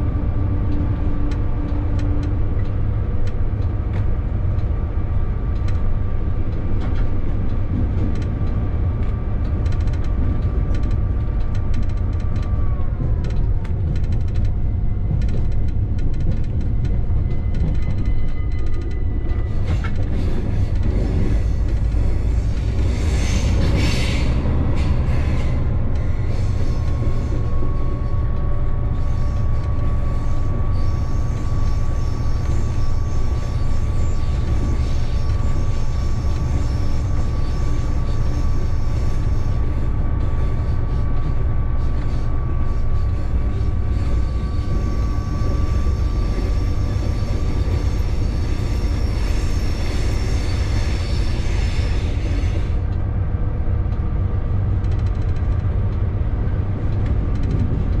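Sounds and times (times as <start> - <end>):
locomotive running gear rumble: 0.0 - 58.0.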